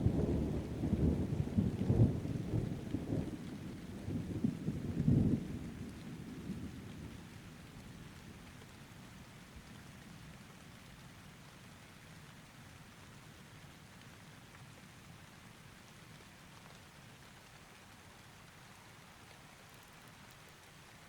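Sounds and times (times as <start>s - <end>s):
faint rain falling: 0.0s - 21.0s.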